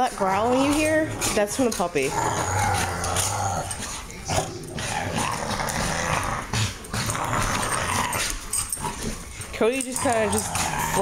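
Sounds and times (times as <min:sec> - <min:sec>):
dogs scuffling on wooden floor: 0:00.0 - 0:11.0
puppy growling: 0:00.1 - 0:11.0.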